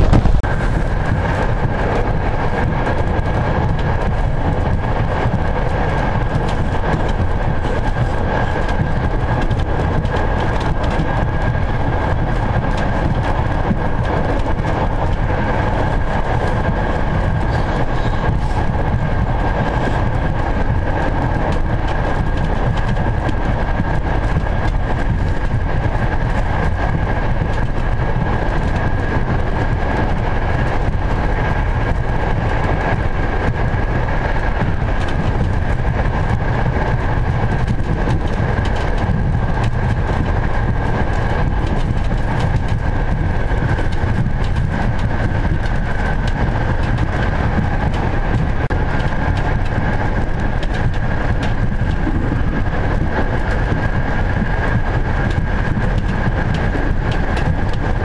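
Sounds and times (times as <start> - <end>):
rushing air noise: 0.0 - 58.0
train rumble: 0.0 - 58.0.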